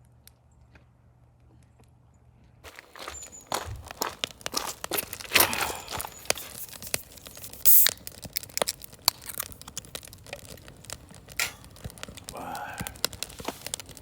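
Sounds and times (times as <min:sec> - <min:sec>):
wood fire crackling and popping: 0:02.7 - 0:14.0.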